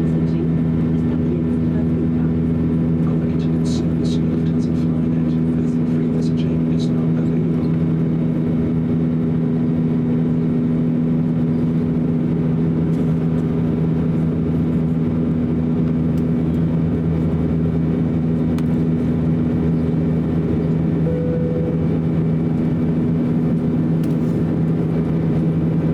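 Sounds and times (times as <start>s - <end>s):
turbofan engine hum in cabin: 0.0s - 25.9s.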